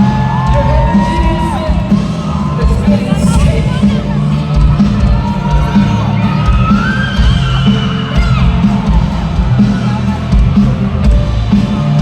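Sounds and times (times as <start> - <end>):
crowd yelling and singing: 0.0 - 12.0
live band music: 0.0 - 12.0.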